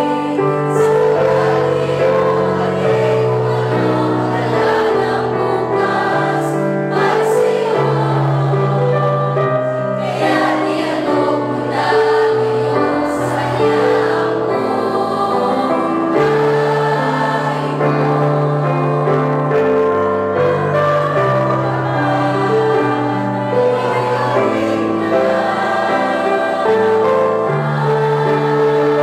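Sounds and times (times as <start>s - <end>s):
choir singing a hymn: 0.0s - 29.0s.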